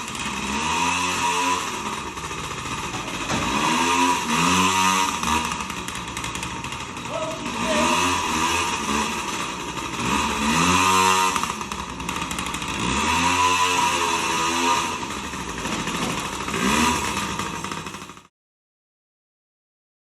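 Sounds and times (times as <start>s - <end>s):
two-stroke engine revving: 0.0s - 18.3s.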